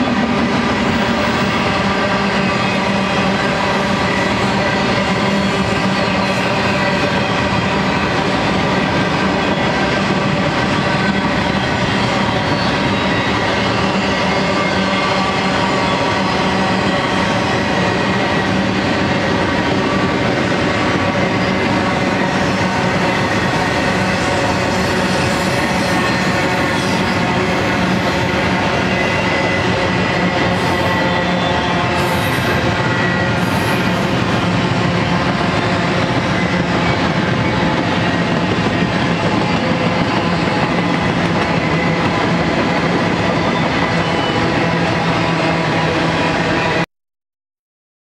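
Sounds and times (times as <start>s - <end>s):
train wheels rumbling on rails: 0.0s - 46.8s.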